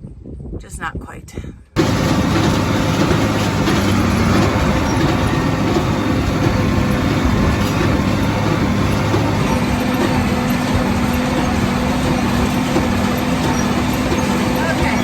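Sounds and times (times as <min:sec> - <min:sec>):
tractor engine droning: 0:01.8 - 0:15.0.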